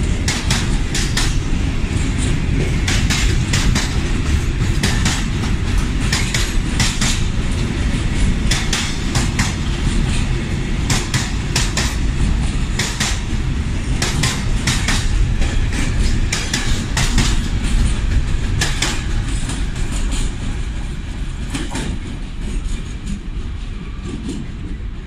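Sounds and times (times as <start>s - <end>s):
train wagons rumbling past: 0.0s - 25.0s.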